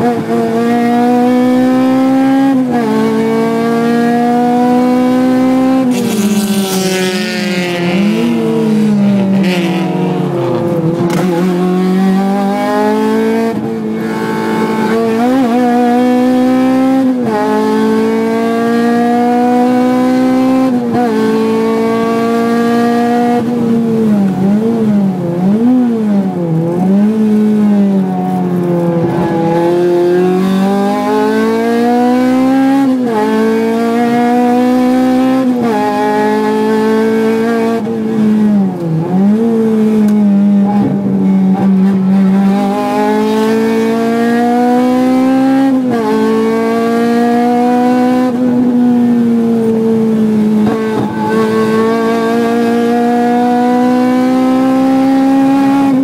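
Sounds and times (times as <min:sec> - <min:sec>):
car engine revving at race pace: 0:00.0 - 0:56.0.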